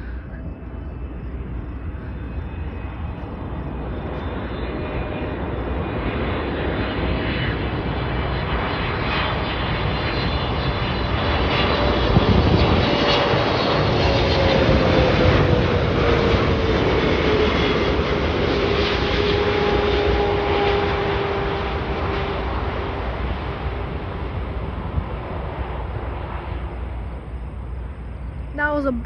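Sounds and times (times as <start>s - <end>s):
jet airliner engines passing: 0.0s - 29.0s.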